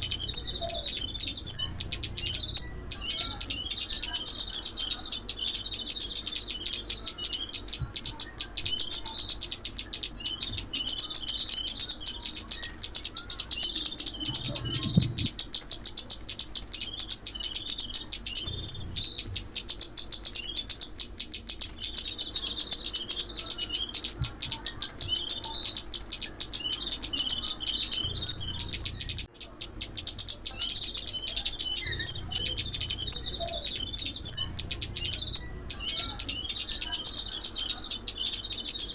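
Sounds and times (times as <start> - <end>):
bird chirping and twittering: 0.0 - 38.9
thin steady high tone: 0.0 - 38.9.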